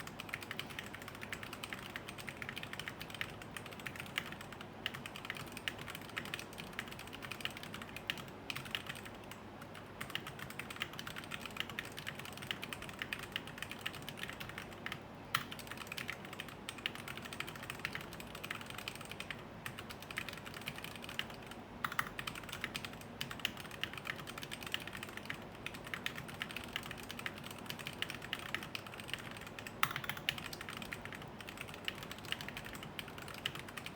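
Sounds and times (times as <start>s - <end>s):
typing on mechanical keyboard: 0.0s - 33.9s.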